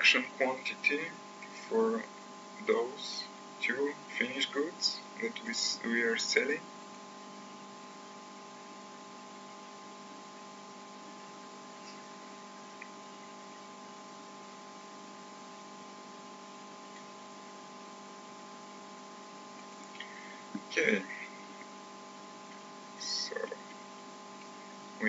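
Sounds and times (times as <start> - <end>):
low background hum and hiss: 0.0 - 25.0.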